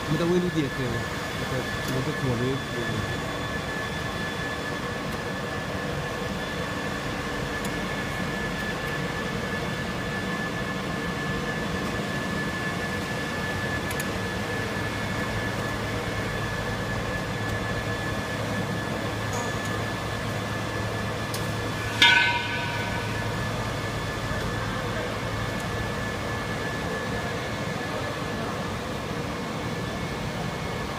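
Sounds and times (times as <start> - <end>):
constant high whine: 0.0 - 30.9
machinery hum and hiss: 0.0 - 30.9.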